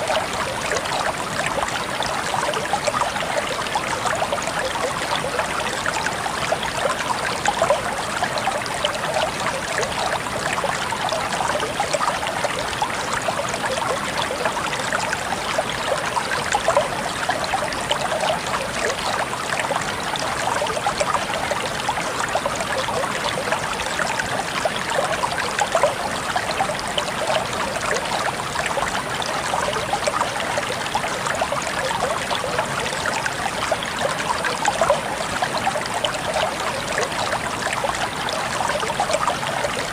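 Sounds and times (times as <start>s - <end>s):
water babbling over stones: 0.0s - 39.9s.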